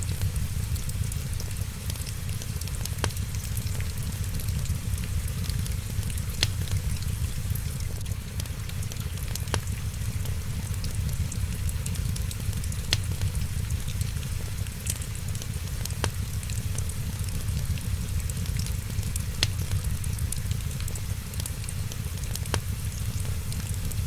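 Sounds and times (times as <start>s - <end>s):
sharp fire pops: 0.0s - 8.5s, 9.3s - 21.4s, 22.1s - 24.0s
rain hiss: 0.0s - 24.0s
wood fire crackling: 0.0s - 24.0s.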